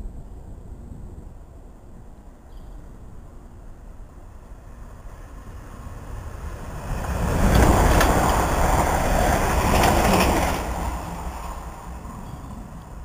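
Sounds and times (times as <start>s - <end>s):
train passing at speed: 0.0s - 13.0s.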